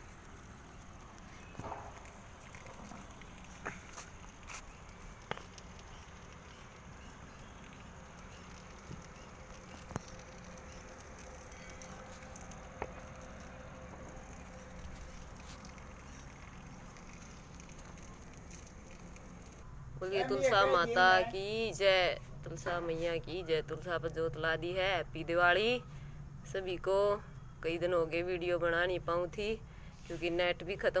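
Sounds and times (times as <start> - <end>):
low outdoor background noise: 0.0 - 31.0.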